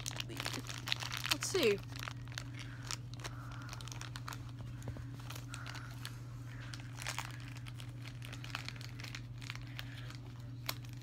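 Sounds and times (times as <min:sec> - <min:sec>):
packaging crinkling and tearing: 0:00.0 - 0:11.0
steady low hum: 0:00.0 - 0:11.0.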